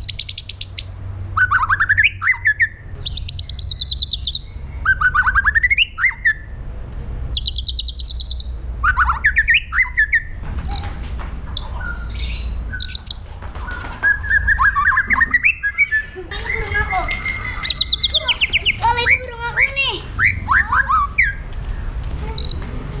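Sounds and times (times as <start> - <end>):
bird singing with trills and whistles: 0.0 - 6.6, 7.3 - 23.0
steady low hum: 0.0 - 23.0.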